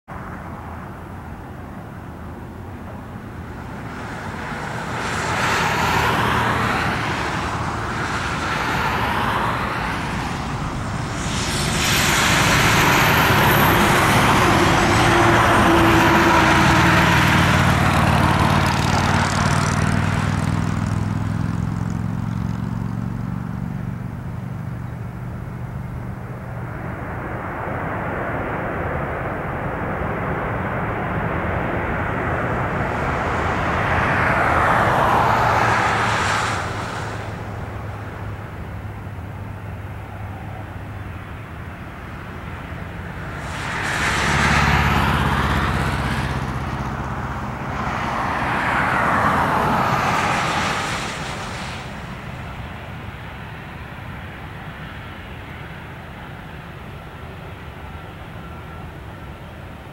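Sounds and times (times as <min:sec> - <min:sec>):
airliner jet engines landing: 0:00.1 - 0:59.9.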